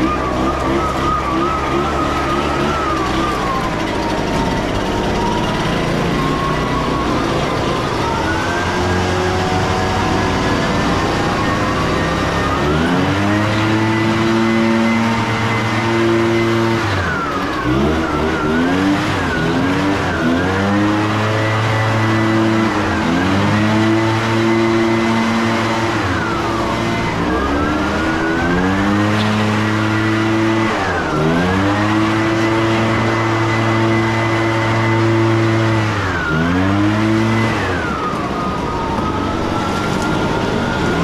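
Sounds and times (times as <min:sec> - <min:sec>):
leaf blower running: 0:00.0 - 0:41.0.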